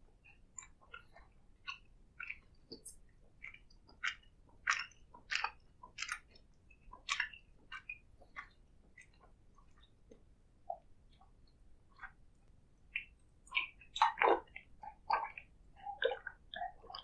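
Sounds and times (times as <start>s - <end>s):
wet chewing of food: 0.0s - 17.0s.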